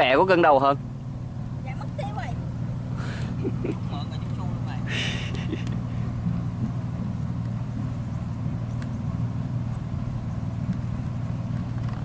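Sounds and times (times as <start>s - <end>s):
engine humming at low speed: 0.0s - 12.0s.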